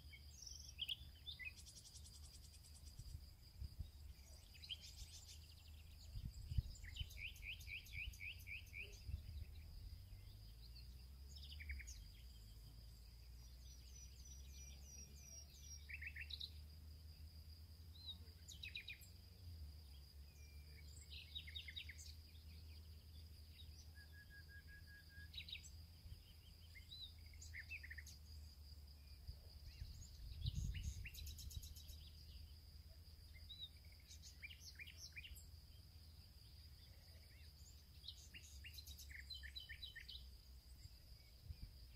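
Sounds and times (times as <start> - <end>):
birds chirping: 0.0 - 17.1, 17.9 - 41.9.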